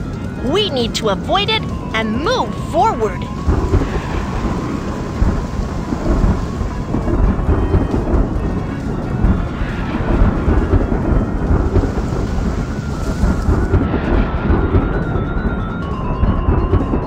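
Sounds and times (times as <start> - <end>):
rain: 0.0 - 17.0
rumble of thunder: 0.0 - 17.0.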